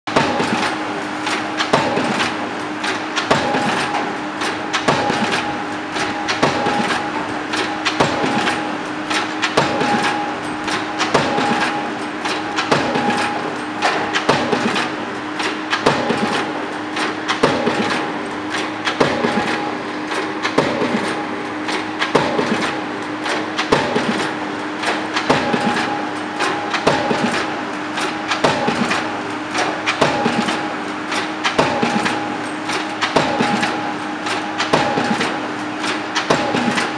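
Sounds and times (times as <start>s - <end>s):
machine hum: 0.1s - 36.9s
pile driver hammer blows: 0.1s - 36.9s.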